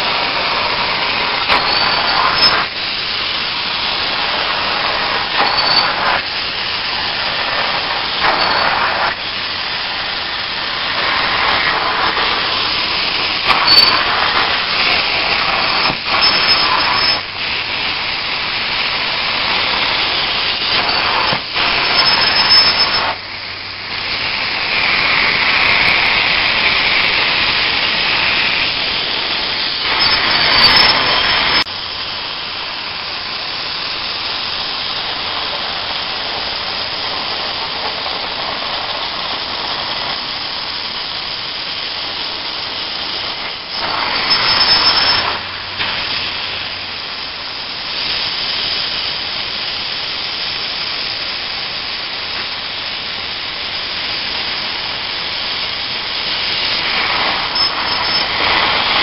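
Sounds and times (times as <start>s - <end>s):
steam cleaner spraying and extracting: 0.0s - 59.0s.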